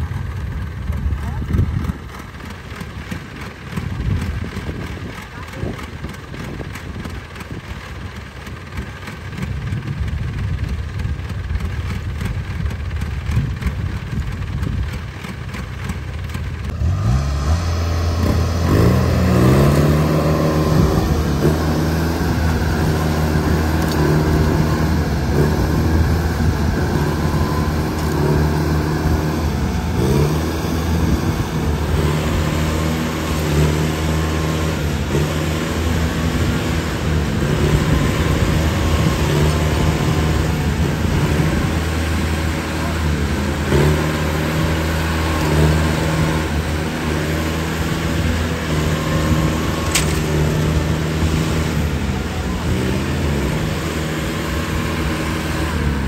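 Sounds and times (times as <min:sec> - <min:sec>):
combine harvester engine revving: 0:00.0 - 0:56.0.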